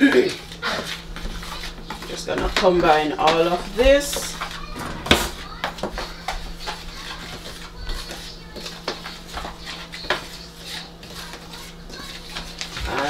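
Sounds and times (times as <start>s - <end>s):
spoon scraping a dish: 0.4s - 4.7s, 5.3s - 13.0s.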